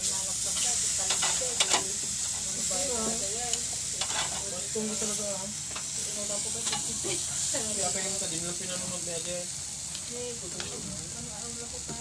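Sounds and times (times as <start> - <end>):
squid sizzling on a grill: 0.0 - 12.0.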